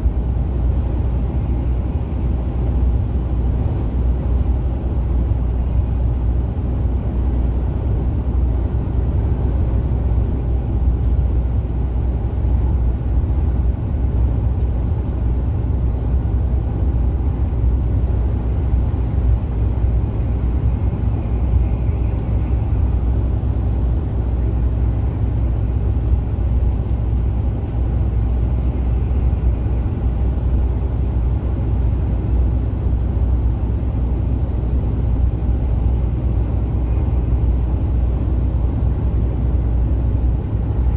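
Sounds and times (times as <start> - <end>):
truck engine and tyre noise: 0.0 - 40.9.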